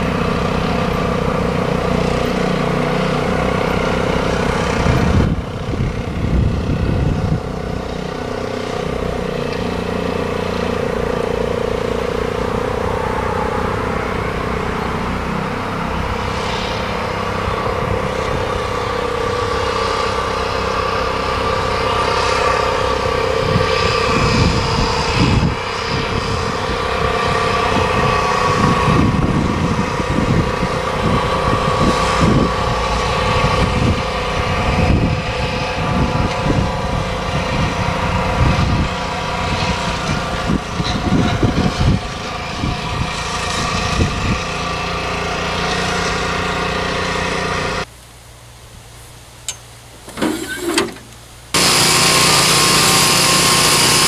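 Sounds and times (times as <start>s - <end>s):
engines running: 0.0s - 48.6s, 49.3s - 54.0s.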